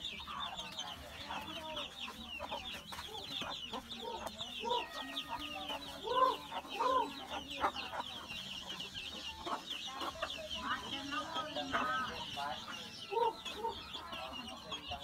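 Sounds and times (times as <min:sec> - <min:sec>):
chicks peeping: 0:00.0 - 0:15.0
hen clucking: 0:00.0 - 0:15.0.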